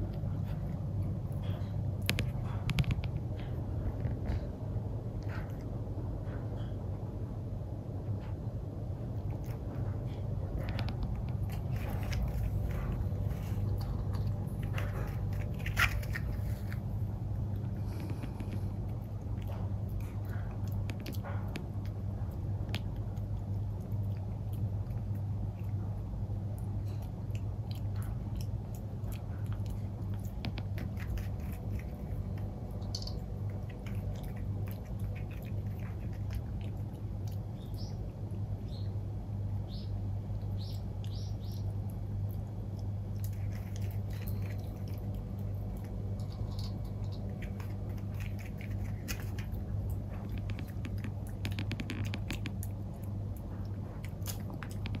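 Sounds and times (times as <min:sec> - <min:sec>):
puppy chewing food: 0:00.0 - 0:55.0
steady low hum: 0:00.0 - 0:55.0.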